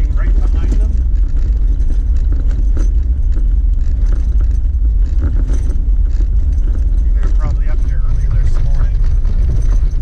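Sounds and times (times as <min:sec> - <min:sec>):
engine and tyres rumbling on gravel: 0:00.0 - 0:10.0
light clicks and rattles: 0:00.0 - 0:10.0.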